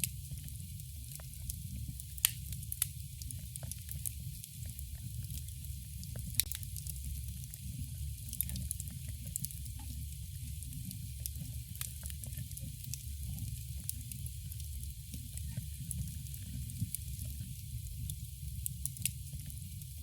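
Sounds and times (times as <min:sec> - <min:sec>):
campfire flames rumbling and hissing: 0:00.0 - 0:20.0
fire crackles and pops: 0:00.0 - 0:20.0.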